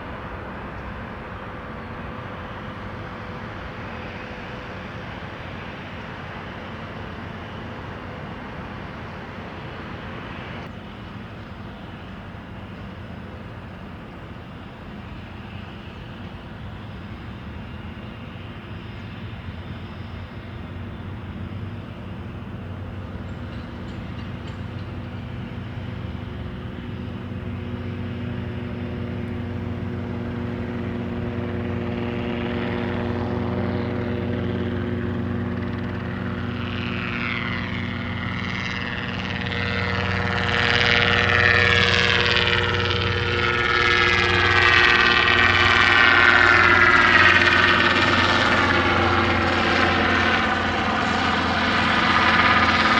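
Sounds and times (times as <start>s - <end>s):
airplane engines humming: 0.0s - 52.9s
high engine whine: 0.0s - 52.9s.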